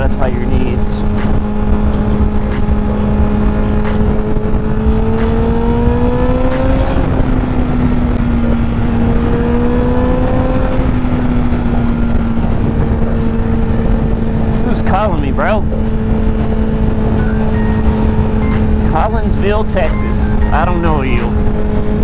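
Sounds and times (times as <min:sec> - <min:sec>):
heavy wind noise: 0:00.0 - 0:22.0
motorcycle engine cruising: 0:00.0 - 0:22.0.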